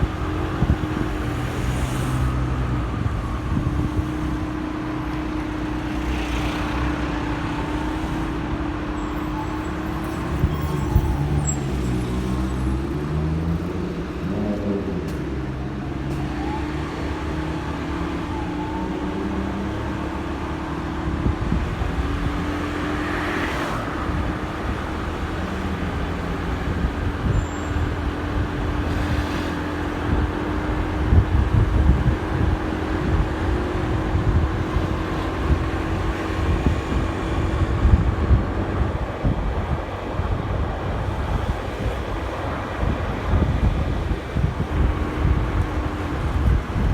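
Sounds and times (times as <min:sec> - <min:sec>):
wind rumble on microphone: 0:00.0 - 0:46.9.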